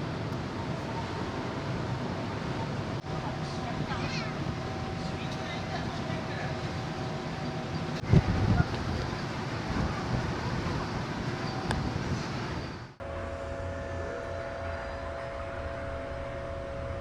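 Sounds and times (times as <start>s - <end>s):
ferry engine rumble and hiss: 0.0s - 17.0s.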